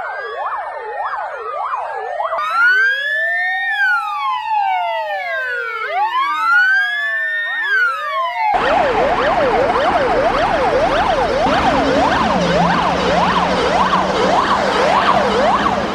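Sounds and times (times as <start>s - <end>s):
fast yelping siren: 2.4s - 15.9s
sirens sweeping up and down: 2.4s - 15.9s.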